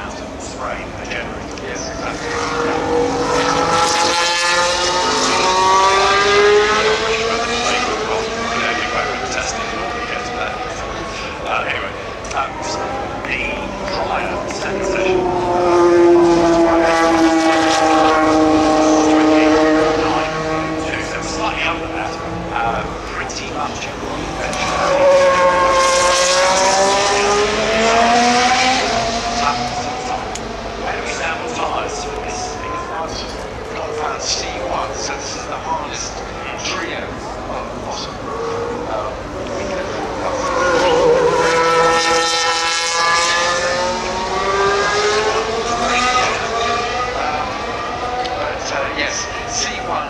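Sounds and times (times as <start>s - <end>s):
racing car engine passing: 0.0s - 50.0s.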